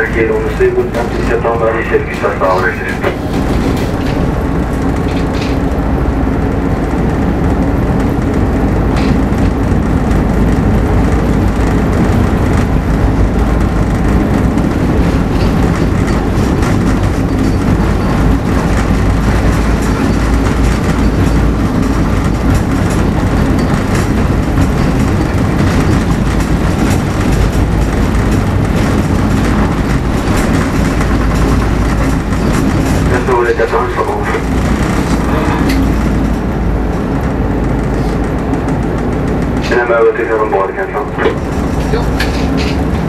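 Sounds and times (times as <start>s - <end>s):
diesel engine rumbling under load: 0.0s - 43.0s.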